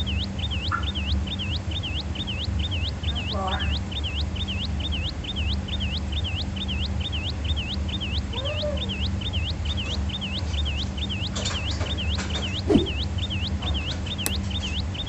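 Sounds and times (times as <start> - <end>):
bird chirping: 0.0 - 15.0
lower bird call: 0.0 - 15.0
steady low hum: 0.0 - 15.0.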